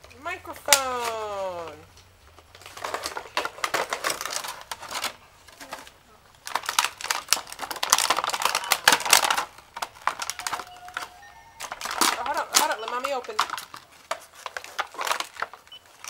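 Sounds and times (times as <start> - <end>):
wrapping paper tearing and crinkling: 2.4 - 16.0.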